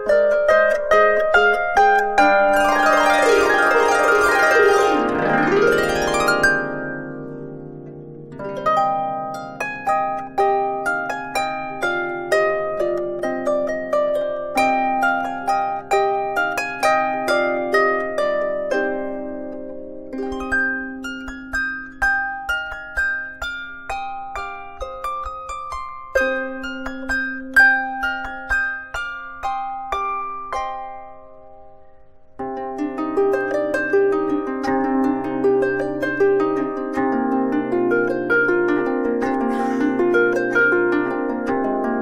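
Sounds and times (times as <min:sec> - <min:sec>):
harp glissando: 0:00.0 - 0:42.0
harp plucked melody: 0:00.0 - 0:42.0.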